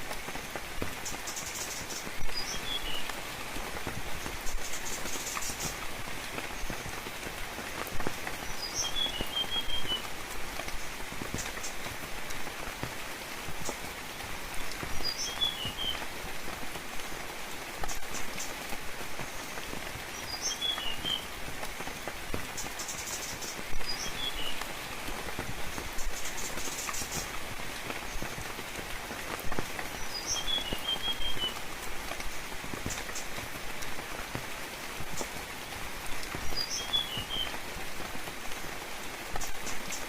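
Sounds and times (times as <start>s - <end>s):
rain pattering on foliage: 0.0s - 40.0s.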